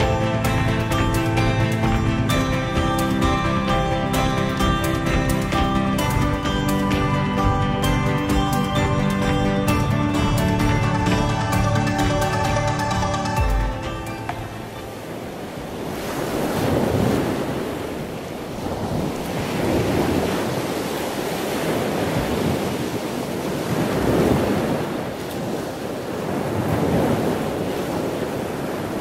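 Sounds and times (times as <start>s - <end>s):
ocean waves washing in: 0.0s - 29.0s.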